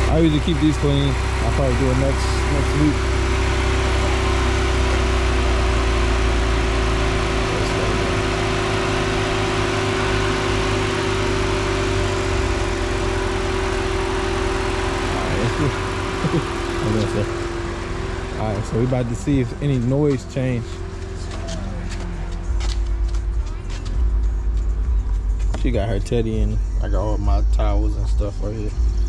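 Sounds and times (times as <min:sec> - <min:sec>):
car engine idling: 0:00.0 - 0:29.0
radiator cooling fan humming: 0:00.0 - 0:29.0.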